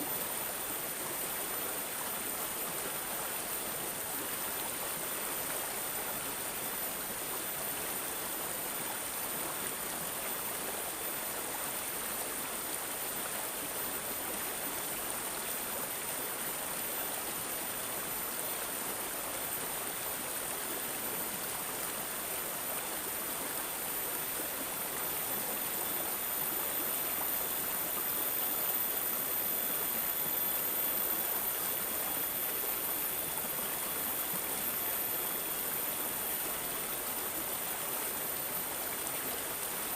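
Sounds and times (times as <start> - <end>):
stream babbling and gurgling: 0.0 - 39.9.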